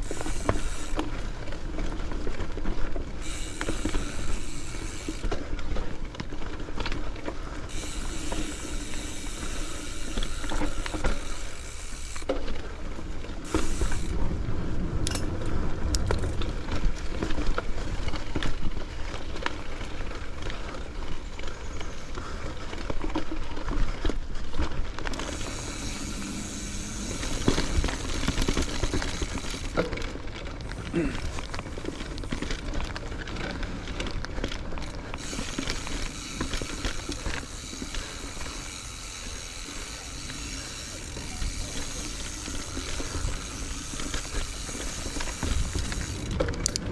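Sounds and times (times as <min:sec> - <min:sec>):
bike clicks and rattles: 0:00.0 - 0:46.9
bike tyres on dirt trail: 0:00.0 - 0:46.9.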